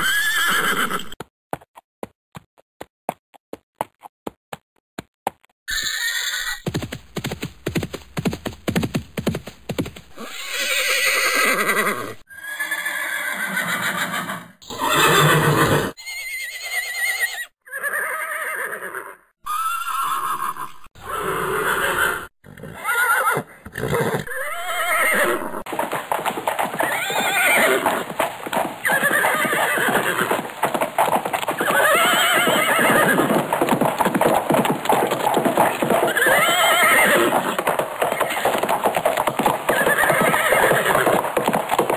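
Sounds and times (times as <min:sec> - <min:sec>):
horses whinnying: 0:00.0 - 0:01.2, 0:05.7 - 0:06.6, 0:10.1 - 0:41.9.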